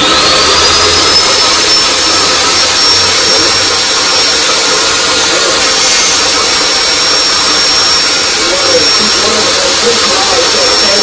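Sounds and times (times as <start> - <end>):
table saw whining: 0.0 - 11.0.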